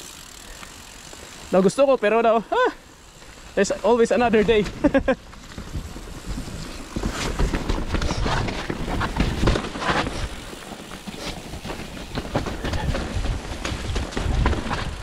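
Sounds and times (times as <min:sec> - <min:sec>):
bike knocking and rattling: 0:00.0 - 0:15.0
bike tyres clattering over rocks: 0:00.0 - 0:15.0.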